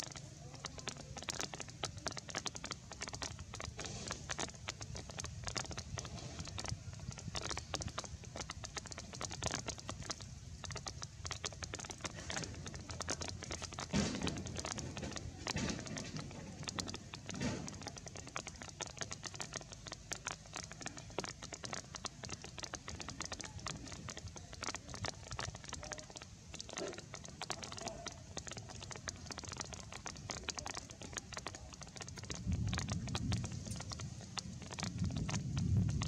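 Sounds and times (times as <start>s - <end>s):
light rain pattering: 0.0s - 36.0s.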